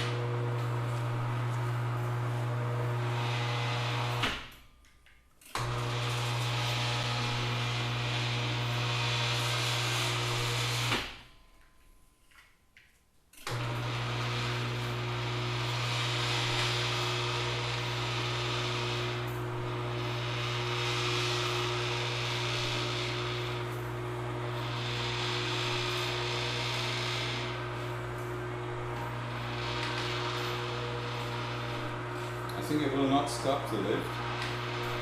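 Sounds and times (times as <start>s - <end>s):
electric winch motors humming: 0.0s - 4.5s, 5.5s - 11.3s, 13.4s - 35.0s.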